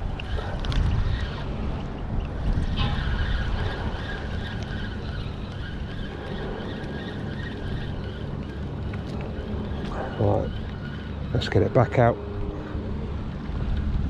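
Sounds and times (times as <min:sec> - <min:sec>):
ferry engine hum: 0:00.0 - 0:14.0
wind noise: 0:00.0 - 0:14.0.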